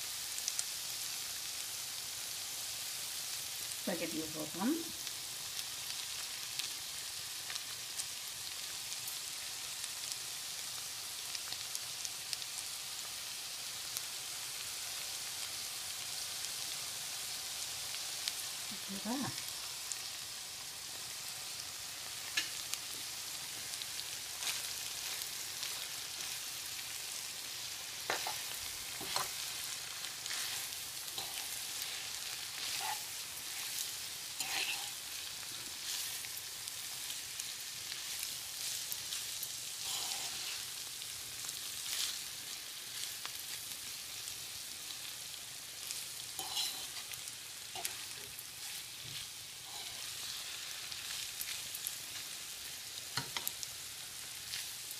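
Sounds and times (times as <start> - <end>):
food sizzling in a skillet: 0.0 - 54.9.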